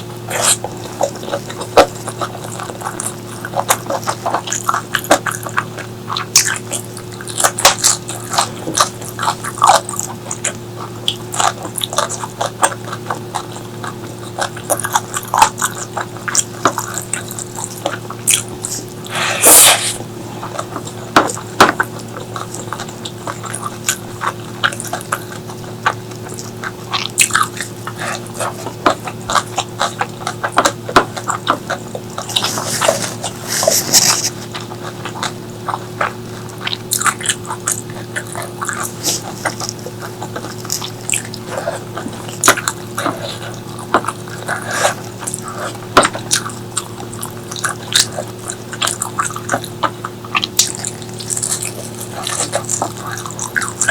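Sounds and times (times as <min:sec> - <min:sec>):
faint steady hum: 0:00.0 - 0:53.9
wet chewing and mouth clicks: 0:00.0 - 0:53.9.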